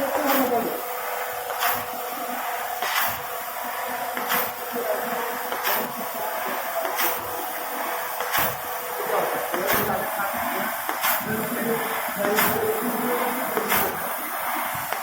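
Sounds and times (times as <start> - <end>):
air hiss: 0.0 - 15.0.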